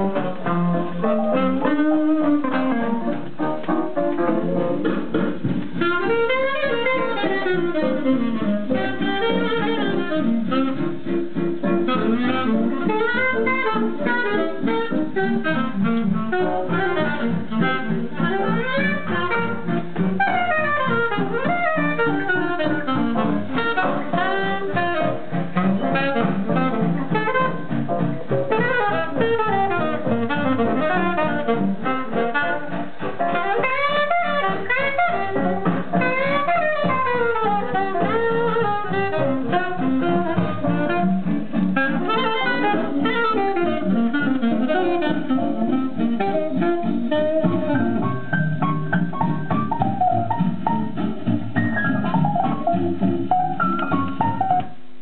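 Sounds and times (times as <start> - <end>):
instrumental jazz from record player: 0.0 - 55.0.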